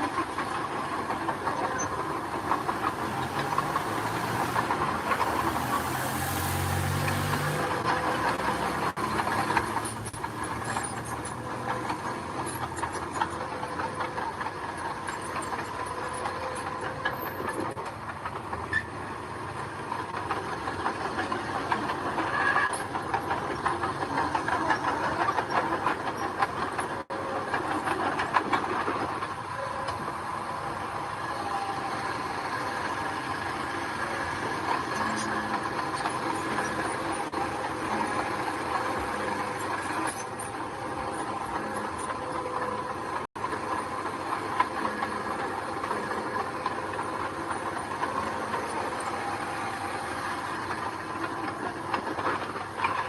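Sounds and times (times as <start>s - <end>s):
bulldozer engine under load: 0.0s - 53.0s
faint undercarriage squeal: 0.0s - 53.0s
steel tracks clanking: 0.0s - 53.0s.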